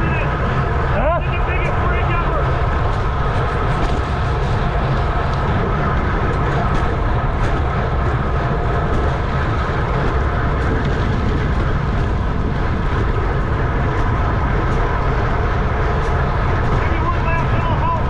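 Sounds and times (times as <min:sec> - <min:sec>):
tyre and drivetrain hum: 0:00.0 - 0:18.0
wind rushing over microphone: 0:00.0 - 0:18.0.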